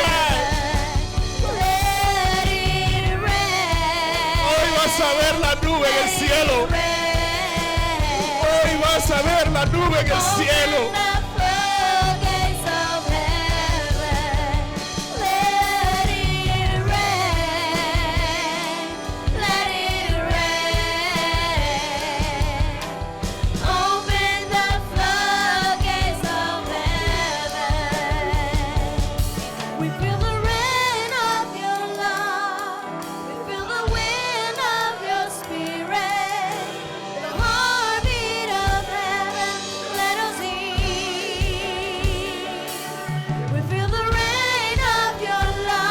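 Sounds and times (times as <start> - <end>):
steady drum beat: 0.0 - 33.2, 33.9 - 34.8, 37.3 - 45.9
live worship band: 0.0 - 45.9
people singing with vibrato: 0.0 - 45.9.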